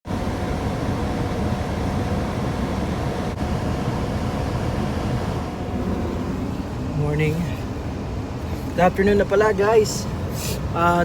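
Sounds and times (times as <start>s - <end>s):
car rumble from inside cabin: 0.1s - 11.0s.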